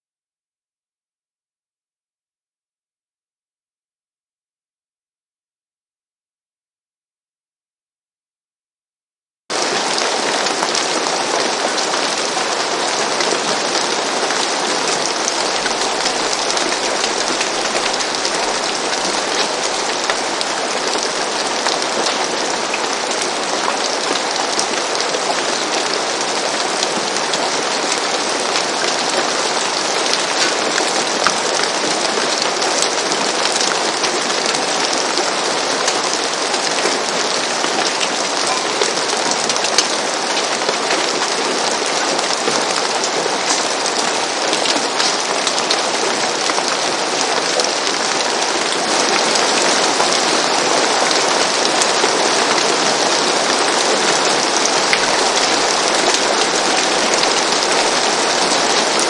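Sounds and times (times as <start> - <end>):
rain falling on a roof: 9.5 - 59.0.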